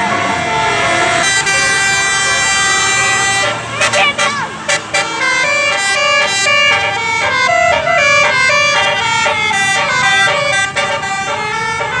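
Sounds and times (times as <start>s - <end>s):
bus musical horn tune: 0.0s - 12.0s.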